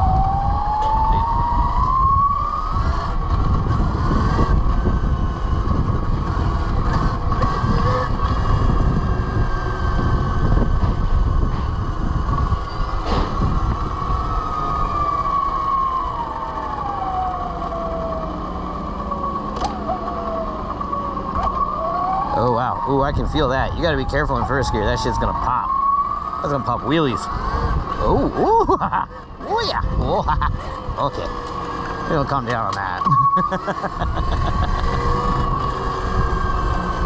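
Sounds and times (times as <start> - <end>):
electric motorcycle motor whine: 0.0 - 37.0
wind and road noise: 0.0 - 37.0.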